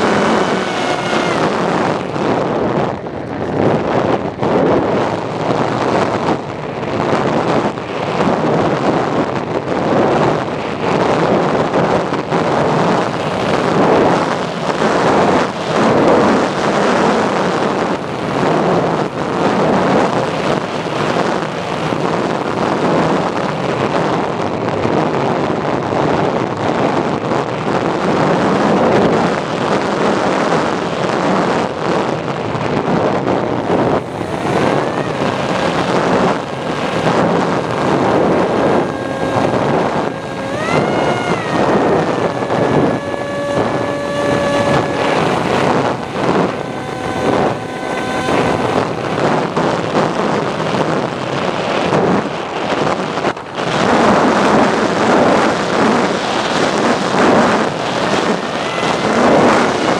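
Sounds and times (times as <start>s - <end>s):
model plane motor and propeller: 0.0s - 59.9s
wind rushing over microphone: 0.0s - 59.9s.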